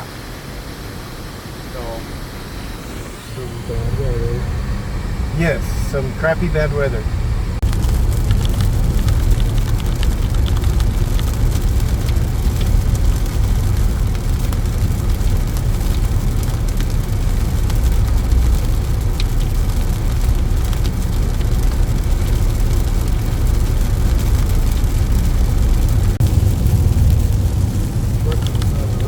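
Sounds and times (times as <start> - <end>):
road and engine rumble in vehicle: 0.0 - 29.0.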